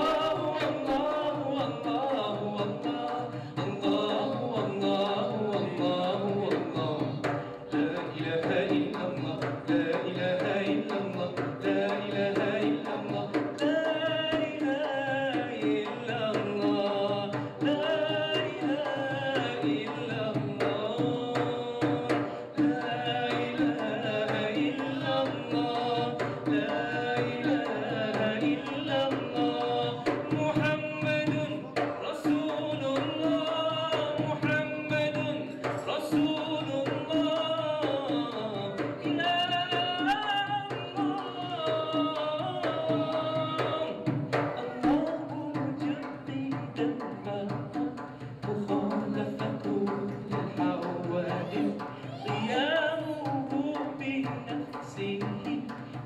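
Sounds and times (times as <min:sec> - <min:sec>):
hand drum percussion: 0:00.0 - 0:56.0
man singing into a microphone: 0:00.0 - 0:56.0.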